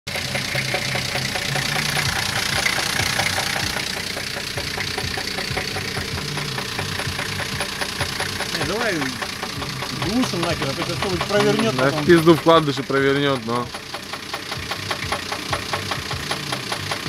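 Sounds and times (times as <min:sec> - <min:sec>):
engine idling: 0:00.0 - 0:17.0
rapid engine knock: 0:00.1 - 0:17.0.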